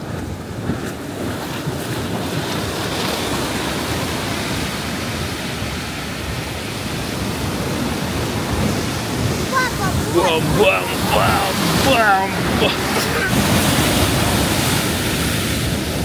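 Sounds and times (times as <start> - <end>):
heavy waves breaking: 0.0 - 16.0.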